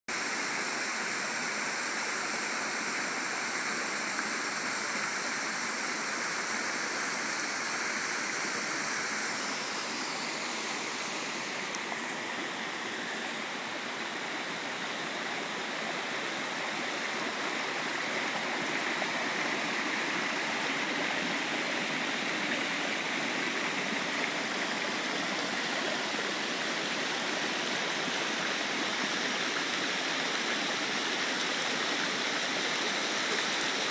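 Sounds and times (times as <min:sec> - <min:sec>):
water rushing over rock steps: 0:00.6 - 0:33.9.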